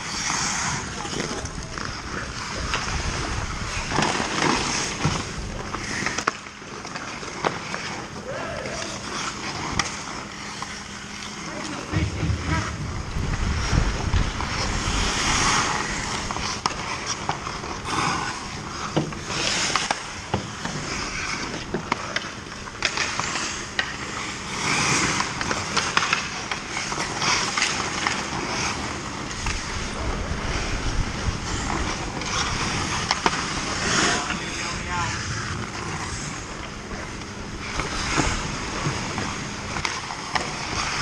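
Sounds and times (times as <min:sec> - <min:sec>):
hockey sticks and puck clacking: 0:00.0 - 0:12.8, 0:14.4 - 0:30.0, 0:31.4 - 0:41.0
skate blades scraping ice: 0:00.0 - 0:41.0.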